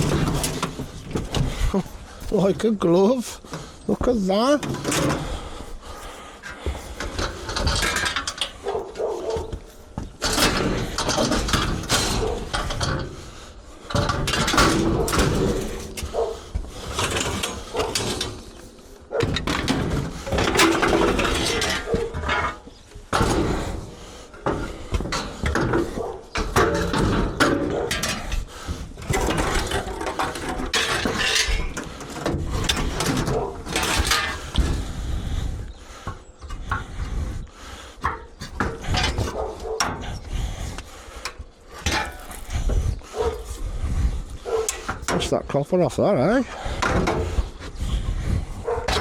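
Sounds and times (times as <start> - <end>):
scrap metal clanking and scraping: 0.0 - 49.0.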